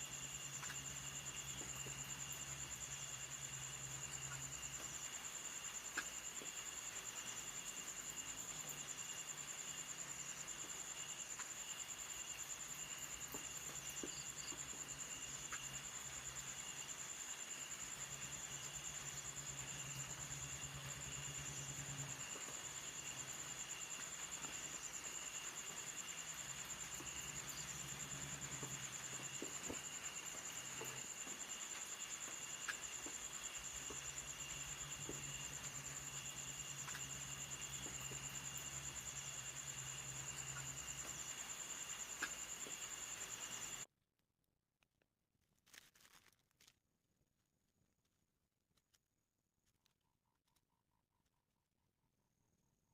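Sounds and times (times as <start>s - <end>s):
insects trilling high: 0.0s - 43.9s
lower insect trill: 0.0s - 43.9s.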